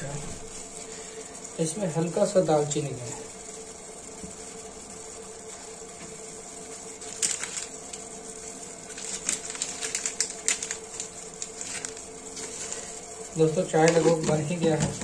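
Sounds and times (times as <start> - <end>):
tea boiling with bubbling: 0.0 - 15.0.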